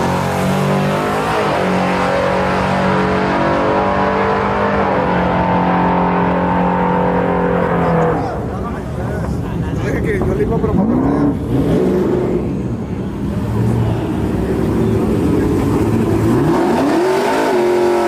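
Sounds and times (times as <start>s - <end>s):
truck engines at full throttle: 0.0s - 18.0s.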